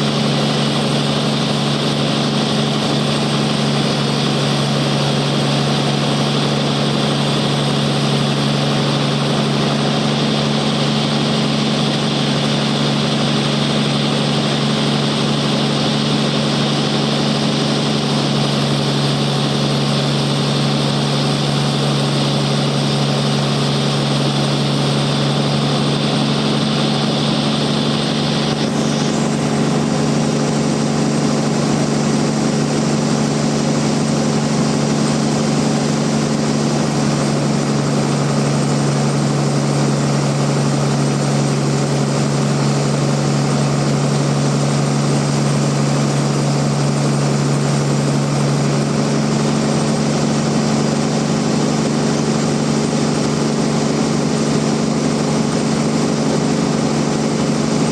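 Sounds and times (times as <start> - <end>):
band sawmill machine hum: 0.0 - 57.9.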